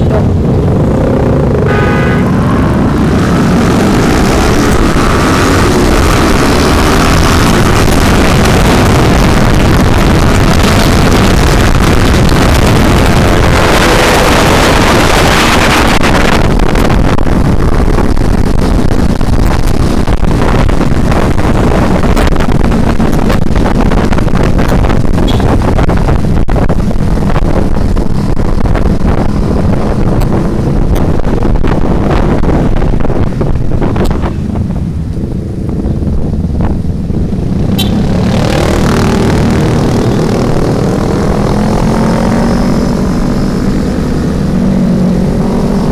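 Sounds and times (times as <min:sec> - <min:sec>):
motorcycle engine revving: 0:00.0 - 0:45.9
wind noise on microphone: 0:00.0 - 0:45.9.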